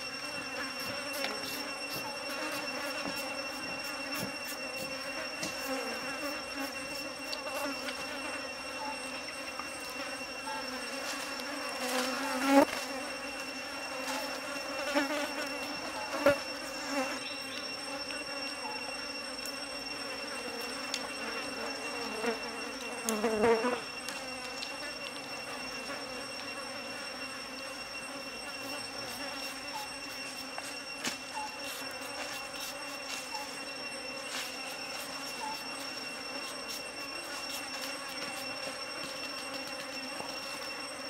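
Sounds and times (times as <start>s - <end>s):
insects buzzing: 0.0s - 41.0s.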